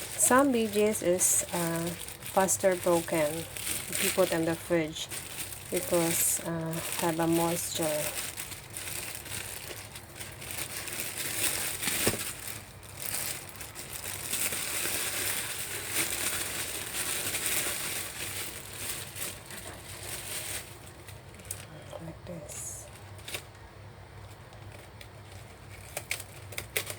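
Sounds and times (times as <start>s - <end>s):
paper and plastic crinkling: 0.0s - 23.6s, 24.2s - 26.9s.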